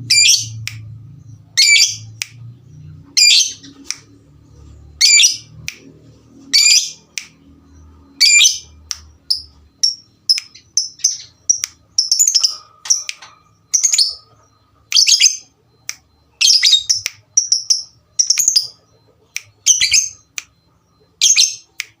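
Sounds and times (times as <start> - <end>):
lovebirds chirping and squawking: 0.0 - 21.8.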